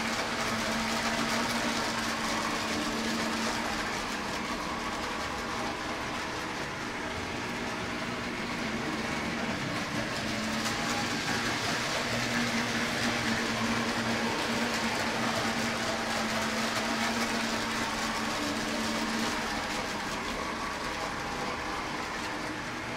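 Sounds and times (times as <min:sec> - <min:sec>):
toy train motor hum: 0:00.0 - 0:22.9
wheels on rails: 0:00.0 - 0:22.9.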